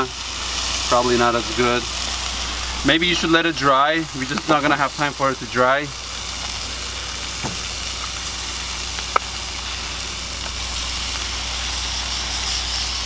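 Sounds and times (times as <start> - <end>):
burgers sizzling in a skillet: 0.0 - 13.0
aerosol spray hissing: 0.2 - 13.0.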